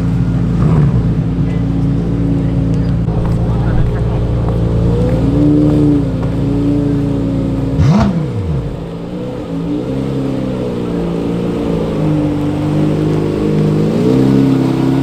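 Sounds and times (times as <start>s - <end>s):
car engines idling: 0.0s - 15.0s
engine throttle blip: 0.0s - 15.0s.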